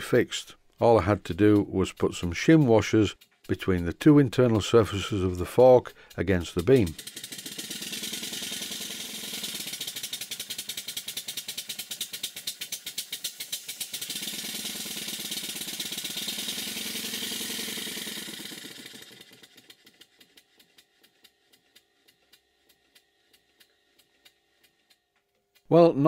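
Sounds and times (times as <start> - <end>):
model steam engine beats: 0.0 - 26.0.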